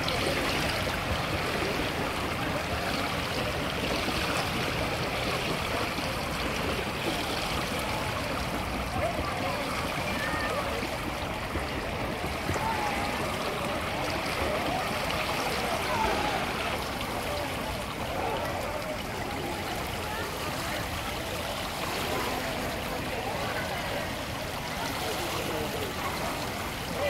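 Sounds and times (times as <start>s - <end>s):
faint distant voices: 0.0s - 27.0s
pool water splashing: 0.0s - 27.0s.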